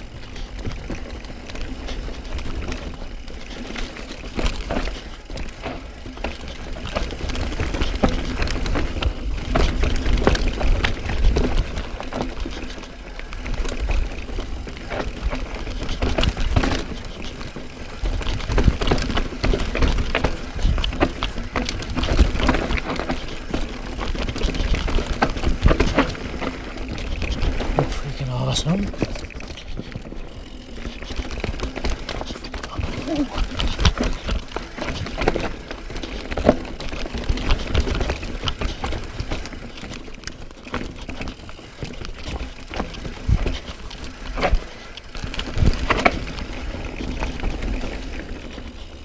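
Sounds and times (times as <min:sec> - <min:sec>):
bike rattling and knocking: 0:00.0 - 0:49.0
tyres rumbling on dirt: 0:00.0 - 0:49.0.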